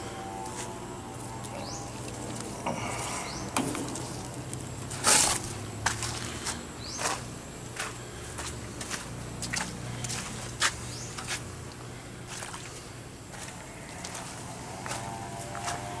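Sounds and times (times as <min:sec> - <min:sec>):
steady low hum: 0:00.0 - 0:16.0
footsteps in brush: 0:00.4 - 0:16.0.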